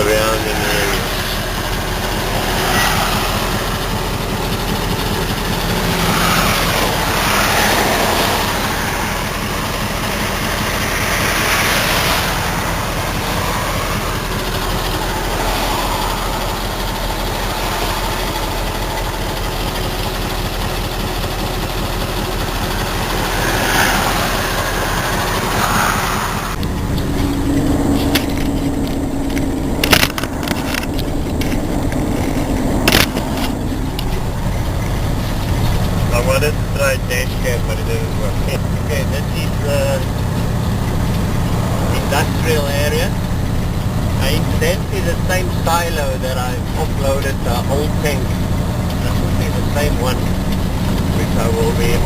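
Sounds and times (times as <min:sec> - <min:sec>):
road noise: 0:00.0 - 0:52.0
truck diesel engine running: 0:00.0 - 0:52.0.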